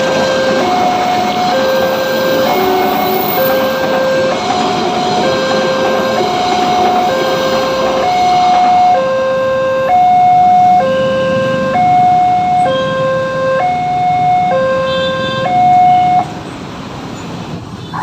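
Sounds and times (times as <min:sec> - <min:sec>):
level crossing two-tone alarm: 0:00.0 - 0:16.3.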